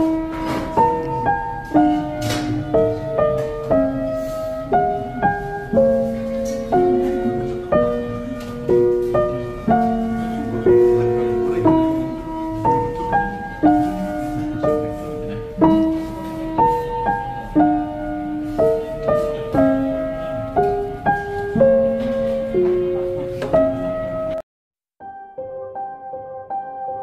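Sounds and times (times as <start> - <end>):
slow piano melody: 0.0 - 24.4, 25.0 - 27.0.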